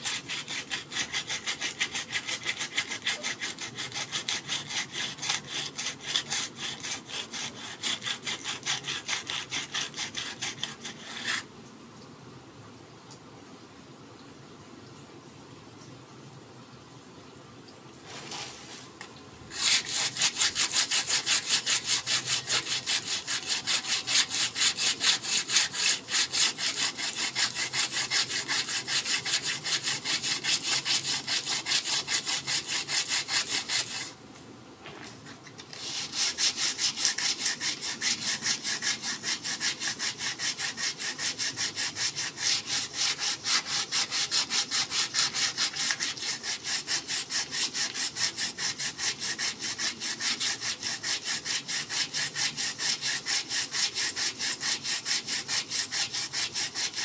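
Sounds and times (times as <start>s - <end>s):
sandpaper rubbing on wood: 0.0s - 11.4s, 19.5s - 34.1s, 35.6s - 57.0s.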